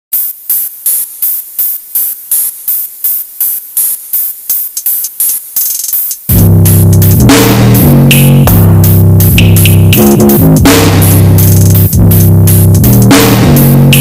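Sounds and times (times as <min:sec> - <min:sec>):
trap beat with heavy bass: 0:00.2 - 0:14.0.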